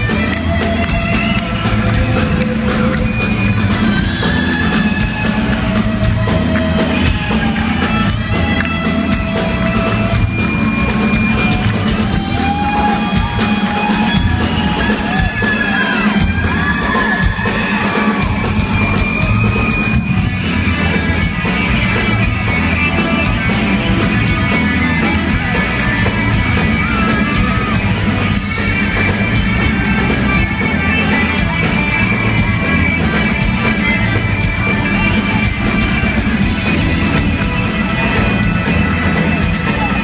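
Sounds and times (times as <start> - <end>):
live rock band playing: 0.0 - 40.0
steady drum beat: 0.0 - 40.0.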